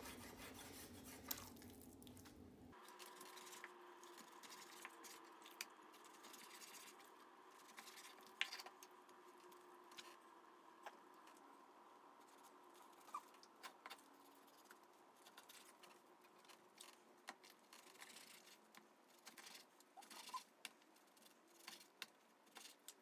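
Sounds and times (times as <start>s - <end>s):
faint room hum: 0.0s - 23.0s.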